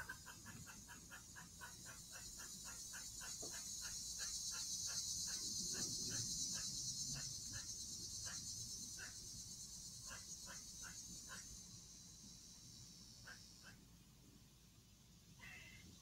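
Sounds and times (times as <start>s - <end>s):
high drone of insects: 0.0s - 16.0s.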